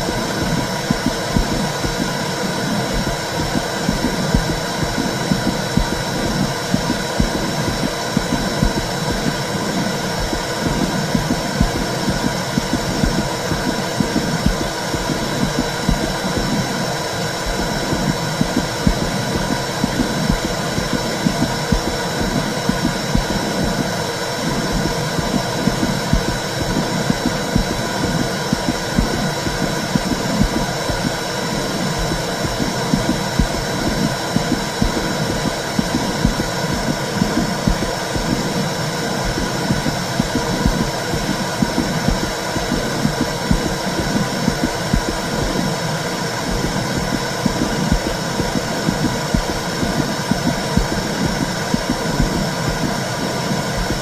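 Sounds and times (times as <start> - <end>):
low whooshing heartbeat pulse: 0.0 - 54.0.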